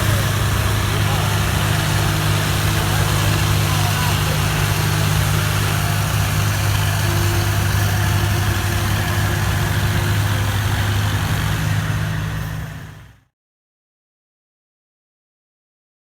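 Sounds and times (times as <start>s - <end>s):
tractor engine idling: 0.0s - 13.2s.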